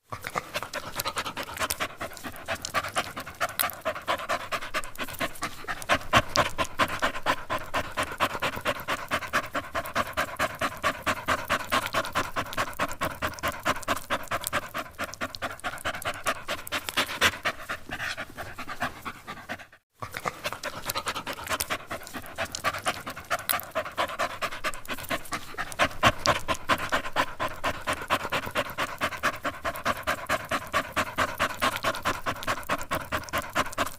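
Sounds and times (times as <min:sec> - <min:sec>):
dog panting: 0:00.0 - 0:33.9.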